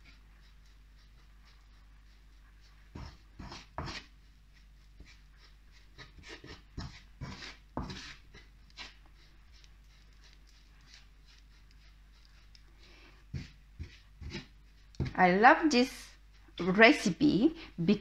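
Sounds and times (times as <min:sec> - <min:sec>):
wooden spatula scraping a pan: 0:00.0 - 0:18.0.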